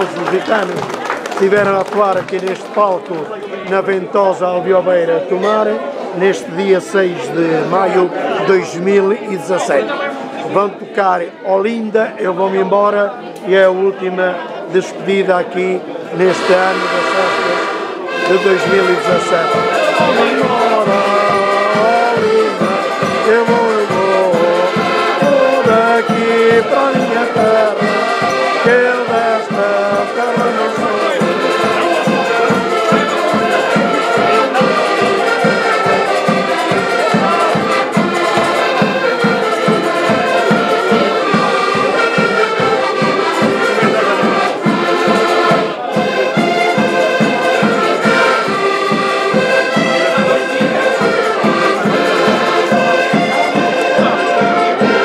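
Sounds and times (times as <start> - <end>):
accordions playing folk tune: 0.0 - 55.0.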